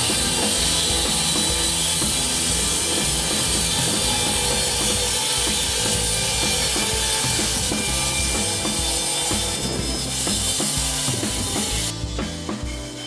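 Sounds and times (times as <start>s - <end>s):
band saw cutting log: 0.0s - 13.0s
music with drum beat: 0.0s - 13.0s.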